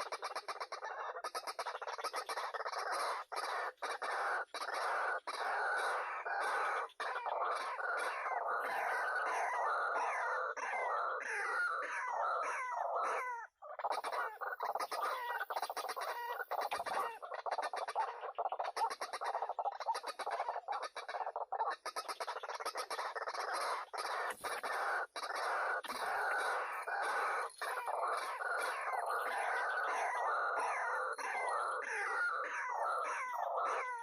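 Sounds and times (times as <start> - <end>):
waterhens clucking calls: 0.0 - 34.0.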